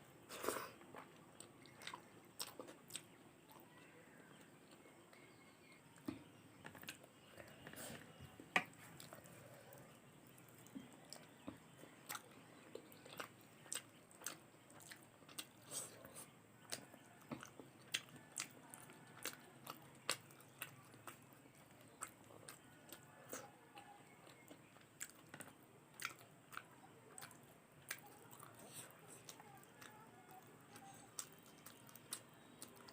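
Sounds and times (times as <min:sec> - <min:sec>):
person chewing crunchy food: 0:00.3 - 0:03.6, 0:06.6 - 0:32.9.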